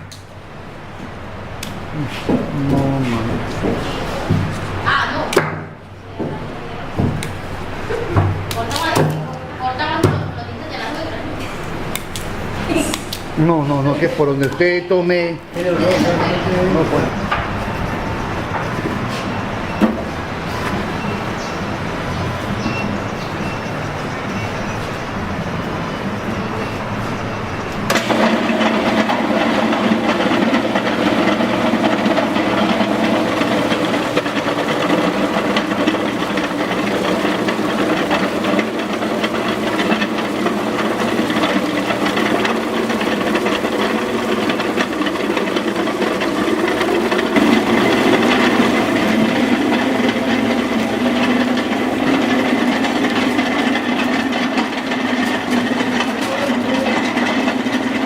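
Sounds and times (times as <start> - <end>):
machinery droning hum: 0.0 - 58.0.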